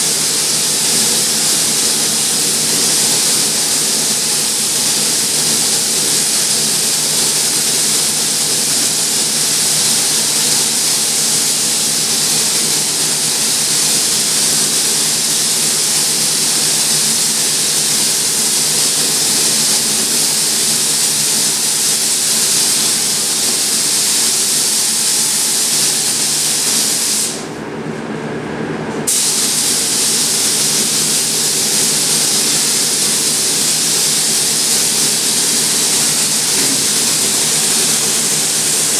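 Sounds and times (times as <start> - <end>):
spray gun hissing: 0.0 - 27.5, 29.1 - 38.9
steady low hum: 0.0 - 38.9.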